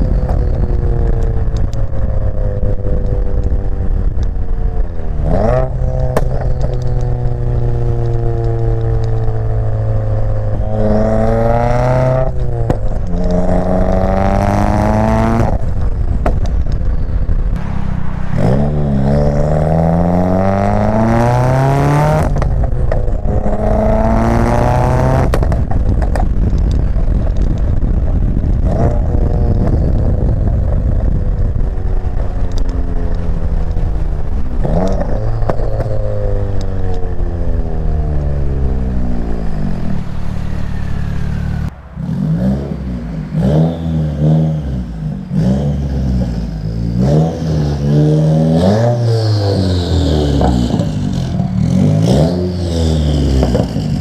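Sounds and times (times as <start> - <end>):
turbocharged car engine revving: 0.0 - 54.0.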